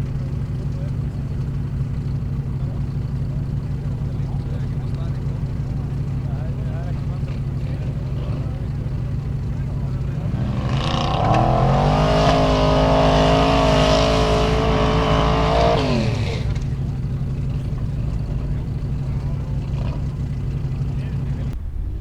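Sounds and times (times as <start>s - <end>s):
jeep engine revving: 0.0s - 22.0s.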